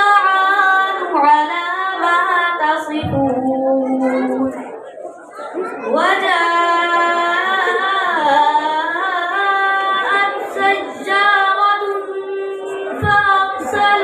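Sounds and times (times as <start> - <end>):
boy reciting melodically: 0.0 - 14.0.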